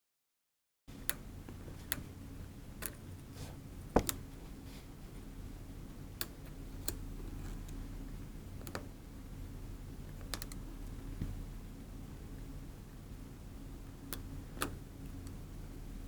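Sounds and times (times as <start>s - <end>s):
faint steady hum: 0.9s - 16.0s.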